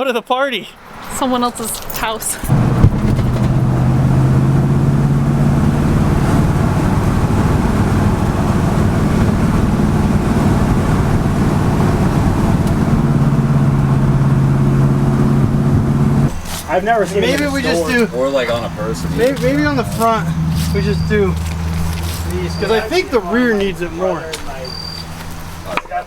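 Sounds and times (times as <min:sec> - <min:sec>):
road noise: 0:00.0 - 0:26.0
truck engine droning: 0:02.4 - 0:26.0.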